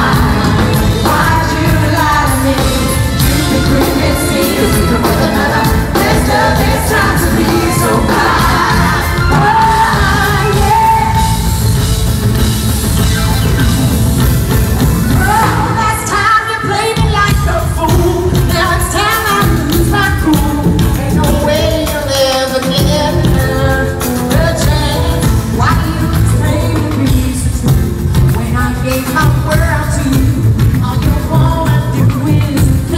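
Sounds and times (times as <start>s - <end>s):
woman singing: 0.0s - 11.6s, 15.1s - 32.9s
pop-rock band playing: 0.0s - 32.9s.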